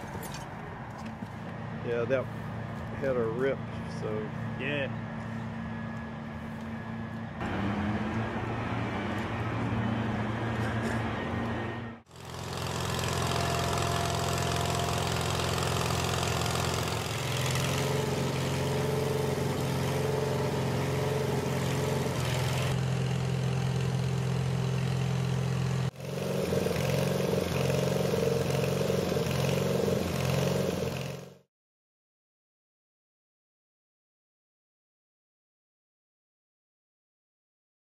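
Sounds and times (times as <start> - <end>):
truck engine running: 0.0 - 31.4.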